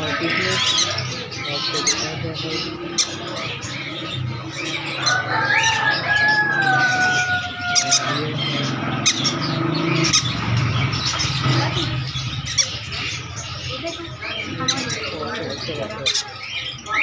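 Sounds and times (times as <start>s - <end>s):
caged birds chirping and squawking: 0.0s - 17.0s.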